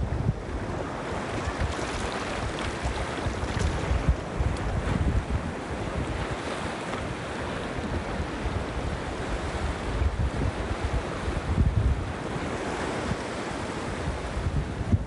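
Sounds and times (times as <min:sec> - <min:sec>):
wind buffeting microphone: 0:00.0 - 0:15.0
small waves breaking on sand: 0:00.4 - 0:14.6.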